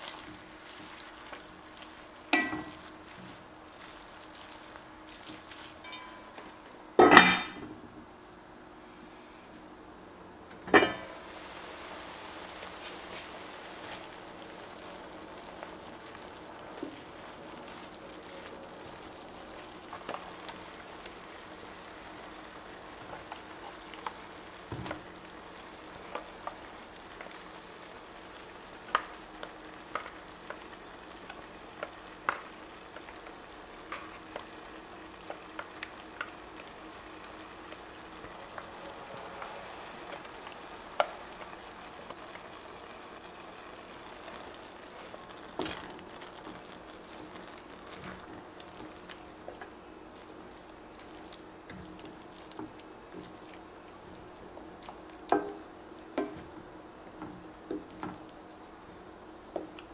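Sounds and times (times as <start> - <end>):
kale sizzling in a pan: 0.0 - 9.5, 10.1 - 59.9.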